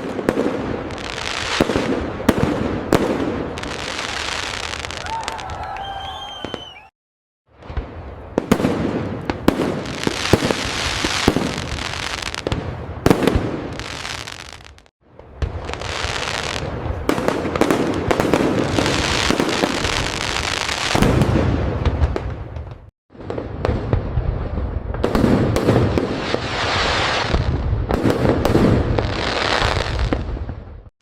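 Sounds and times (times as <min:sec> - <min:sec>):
continuous fireworks crackle: 0:00.0 - 0:06.8, 0:07.5 - 0:30.9
deep fireworks booms: 0:00.0 - 0:06.9, 0:07.5 - 0:30.9
fireworks cracks and bangs: 0:00.0 - 0:06.9, 0:07.5 - 0:30.9.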